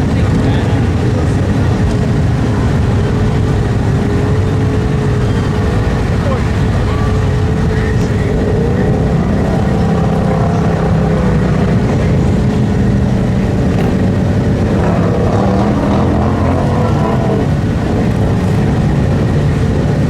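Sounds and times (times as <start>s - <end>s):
truck engine running loud: 0.0s - 20.0s.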